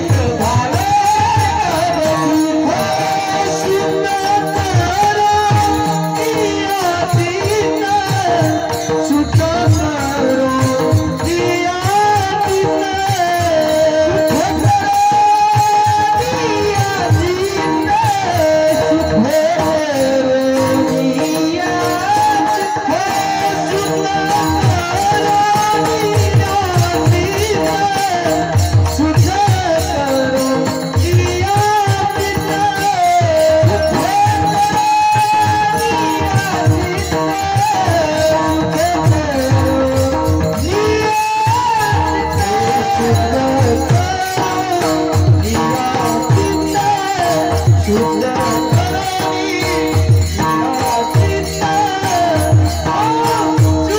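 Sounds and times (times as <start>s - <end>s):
jingling hand cymbals: 0.0s - 53.9s
person singing devotional melody: 0.0s - 53.9s
steady drum beats: 0.0s - 53.9s.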